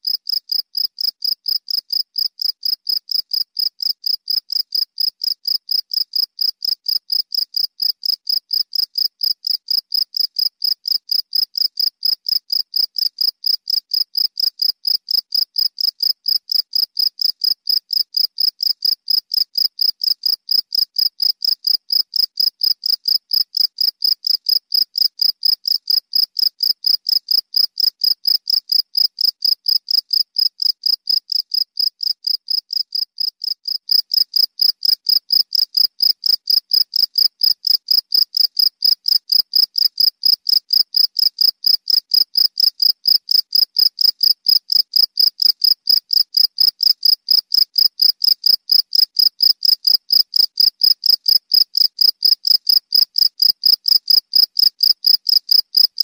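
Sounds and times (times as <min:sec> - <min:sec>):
cricket chirping: 0:00.1 - 0:56.0.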